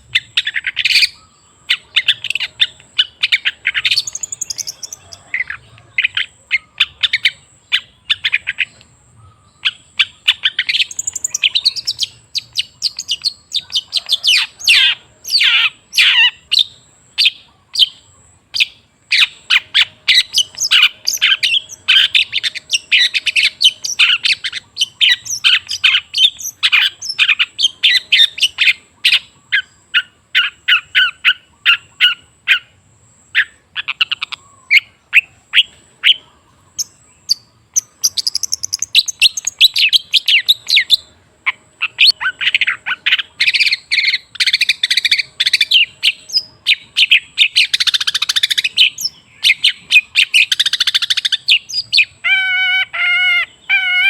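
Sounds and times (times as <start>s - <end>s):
bird singing chattering notes: 0.0s - 54.0s.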